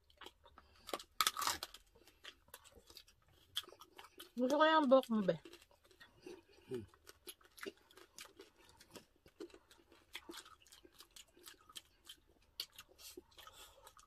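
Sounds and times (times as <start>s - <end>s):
chewing crunches: 0.0s - 14.0s.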